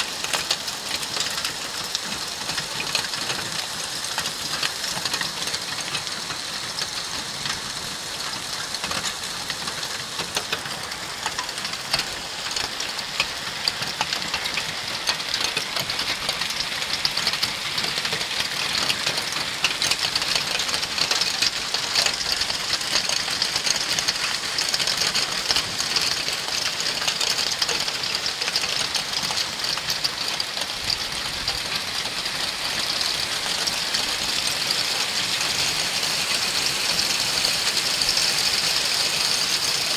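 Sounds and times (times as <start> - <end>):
hail and heavy rain on pavement: 0.0 - 39.9.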